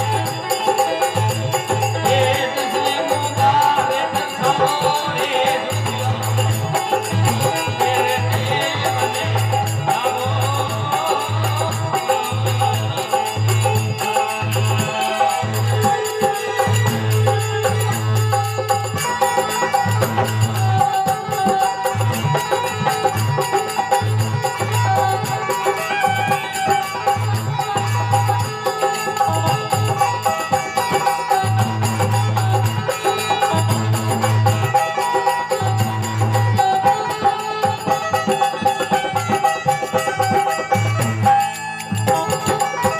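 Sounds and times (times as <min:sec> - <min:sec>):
rhythmic percussion: 0:00.0 - 0:42.9.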